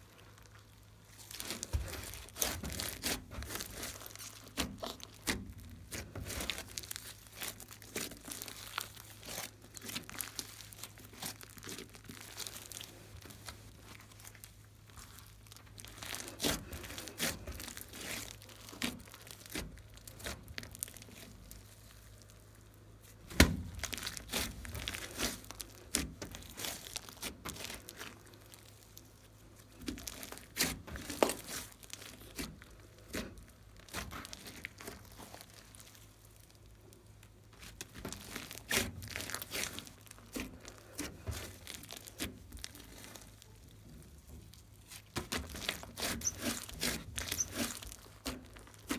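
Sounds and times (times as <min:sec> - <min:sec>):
slime crackling and popping: 0:00.0 - 0:48.9.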